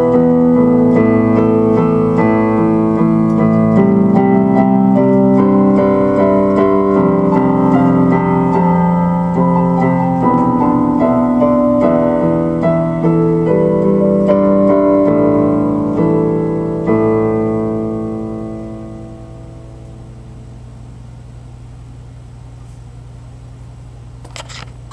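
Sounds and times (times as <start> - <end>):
solo piano melody: 0.0 - 21.7.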